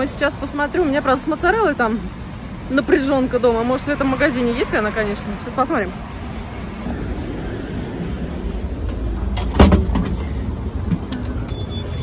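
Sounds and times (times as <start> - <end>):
vehicle traffic rumble: 0.0 - 12.0.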